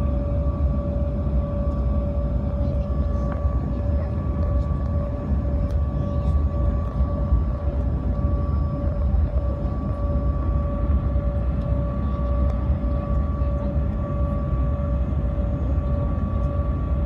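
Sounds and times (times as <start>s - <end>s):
airliner cabin rumble: 0.0s - 17.0s
high jet engine whine: 0.0s - 17.0s.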